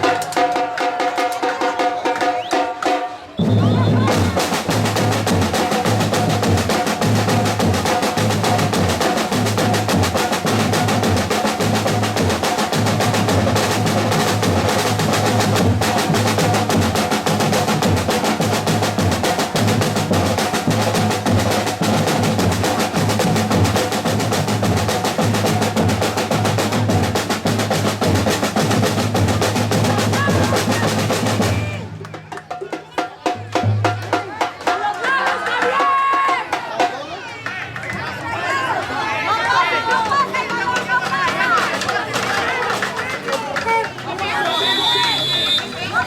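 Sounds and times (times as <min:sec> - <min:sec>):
percussion music with bass line: 0:00.0 - 0:38.1, 0:40.0 - 0:46.0.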